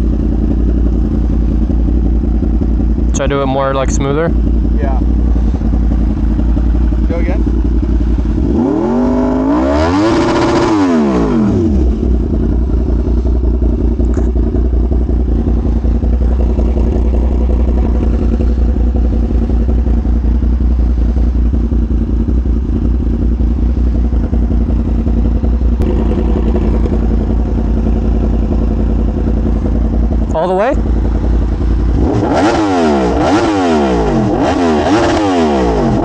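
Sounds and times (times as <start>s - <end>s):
motorcycle engine revving and idling: 0.0s - 36.0s.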